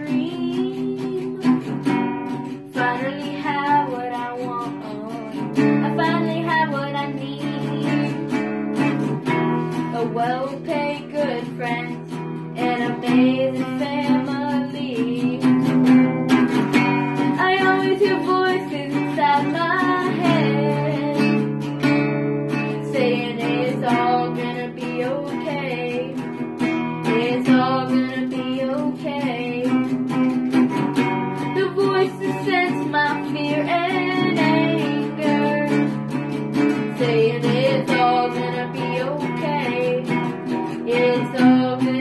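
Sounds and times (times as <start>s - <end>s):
child singing: 0.0s - 1.7s, 2.7s - 8.4s, 9.7s - 15.9s, 17.3s - 21.6s, 22.7s - 26.2s, 27.0s - 30.1s, 31.4s - 42.0s
acoustic guitar strumming: 0.0s - 42.0s.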